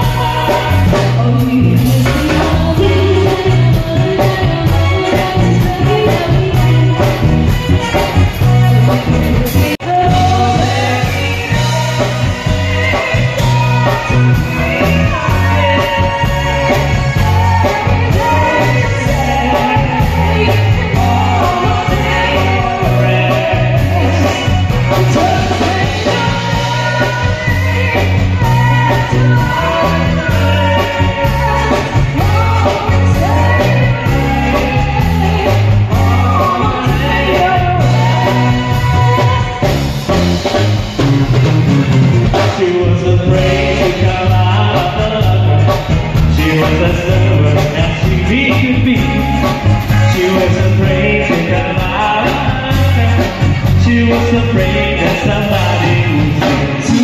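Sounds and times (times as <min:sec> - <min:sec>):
heavy bass line: 0:00.0 - 0:57.0
live band with singer: 0:00.0 - 0:57.0.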